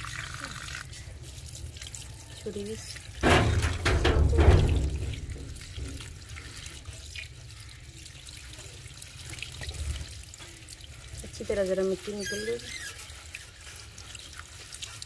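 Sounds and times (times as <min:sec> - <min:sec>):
tap water splashing onto leaves: 0:00.0 - 0:15.0
hands stirring leaves: 0:01.0 - 0:15.0.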